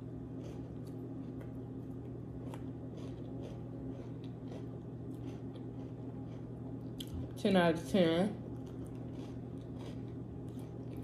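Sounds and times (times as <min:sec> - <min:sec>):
person chewing a cookie: 0:00.0 - 0:07.4, 0:08.4 - 0:11.0
steady low hum: 0:00.0 - 0:11.0.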